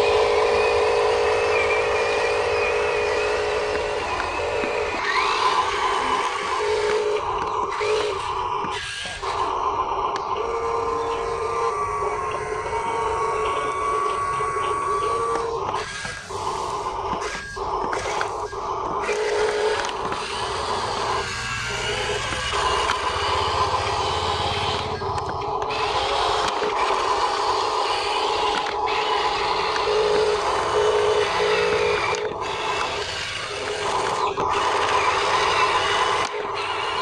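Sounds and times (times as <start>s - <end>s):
toy truck electric motors whining: 0.0s - 37.0s.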